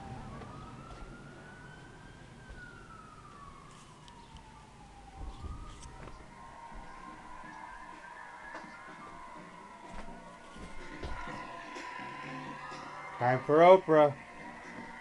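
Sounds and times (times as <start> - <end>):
faint siren wailing: 0.0 - 15.0.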